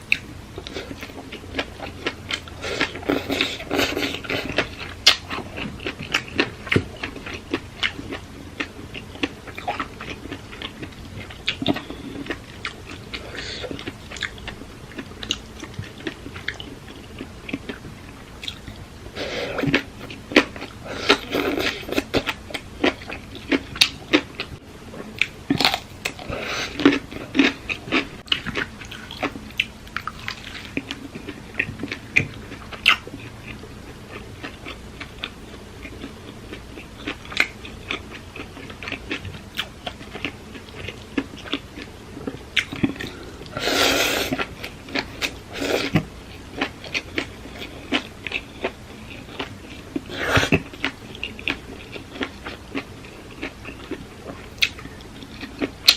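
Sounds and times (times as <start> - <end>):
person chewing and crunching: 0.1 - 55.9.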